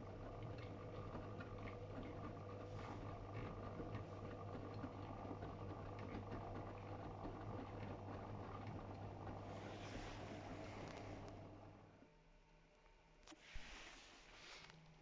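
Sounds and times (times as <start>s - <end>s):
washing machine motor hum: 0.0s - 12.2s.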